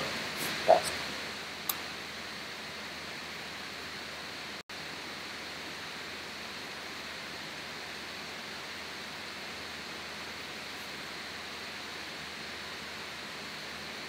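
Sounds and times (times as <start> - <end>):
microphone hiss: 0.0 - 14.0.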